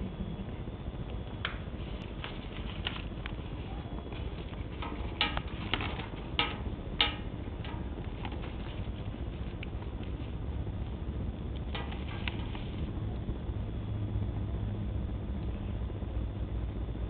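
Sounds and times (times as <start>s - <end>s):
bonfire crackling: 0.0s - 17.0s
low rumble: 0.0s - 17.0s.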